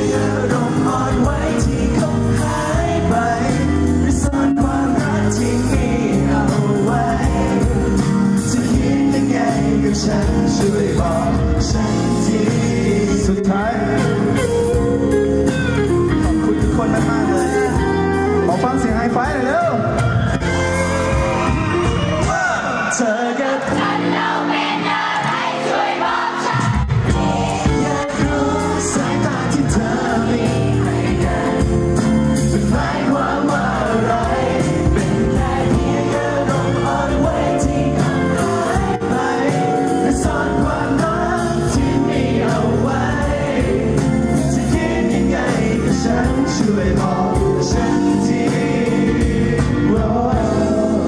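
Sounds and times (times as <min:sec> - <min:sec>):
pop song with male group vocals: 0:00.0 - 0:15.2, 0:16.4 - 0:51.0.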